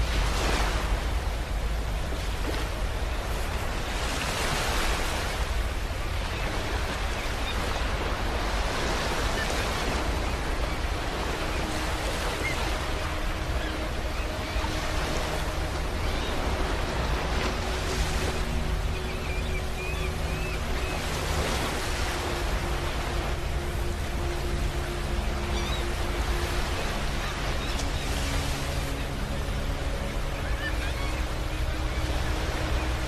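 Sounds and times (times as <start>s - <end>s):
ocean waves breaking on beach: 0.0s - 33.0s.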